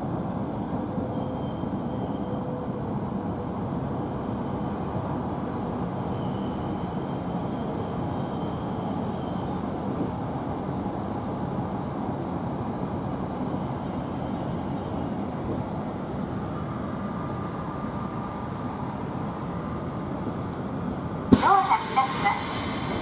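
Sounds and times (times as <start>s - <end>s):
train running at platform: 0.0s - 23.0s.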